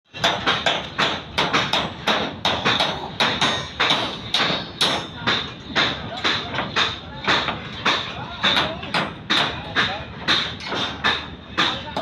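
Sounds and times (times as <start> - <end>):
hammer blows with metallic ring: 0.1 - 12.0.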